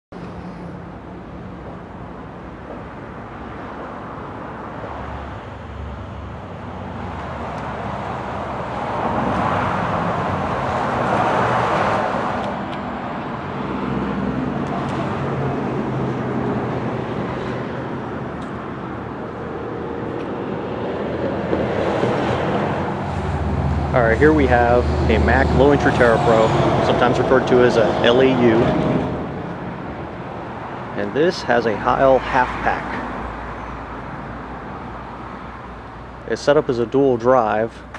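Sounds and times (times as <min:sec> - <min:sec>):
road traffic: 0:00.1 - 0:37.9
vehicle passing: 0:00.3 - 0:36.7.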